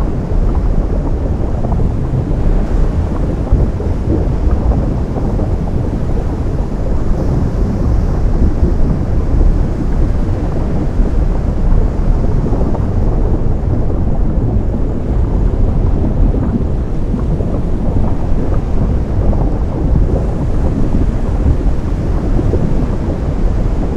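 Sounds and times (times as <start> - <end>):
surf roaring over lava: 0.0 - 23.9.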